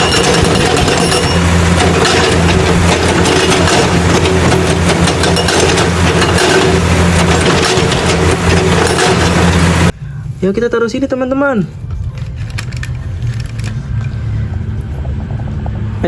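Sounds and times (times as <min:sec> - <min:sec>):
heavy engine idling: 0:00.0 - 0:10.3, 0:11.9 - 0:16.0.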